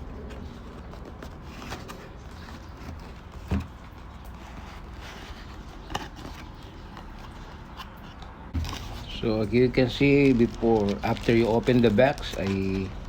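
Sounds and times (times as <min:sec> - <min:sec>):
rustling cardboard packaging: 0:00.0 - 0:13.0.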